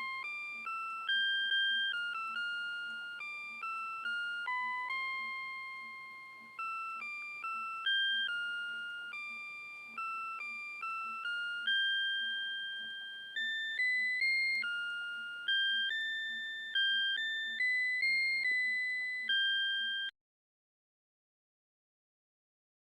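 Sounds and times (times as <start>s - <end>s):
alarm clock chime melody: 0.0s - 20.1s.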